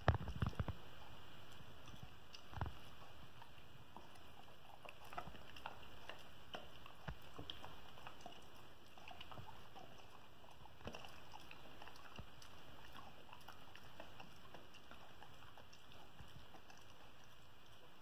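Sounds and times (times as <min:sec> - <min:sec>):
dog chewing: 0:00.0 - 0:18.0
steady low hiss: 0:00.0 - 0:18.0.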